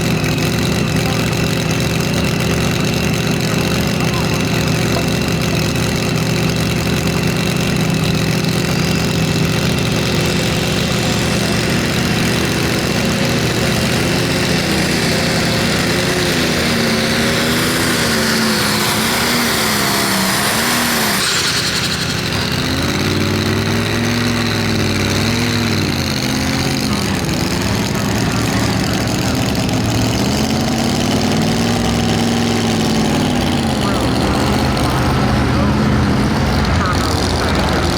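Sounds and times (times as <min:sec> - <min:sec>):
diesel engine running hard: 0:00.0 - 0:37.9
turbo whine: 0:00.0 - 0:37.9.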